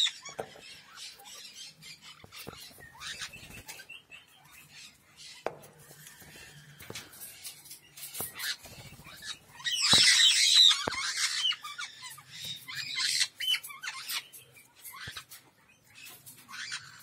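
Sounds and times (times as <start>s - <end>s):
parrots calling: 0.0s - 17.0s.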